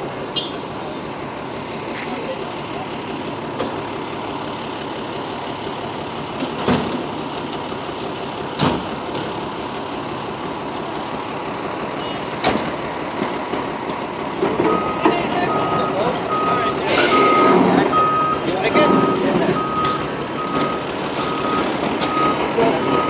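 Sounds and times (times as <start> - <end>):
fire engine running: 0.0 - 23.0
street noise: 0.0 - 23.0.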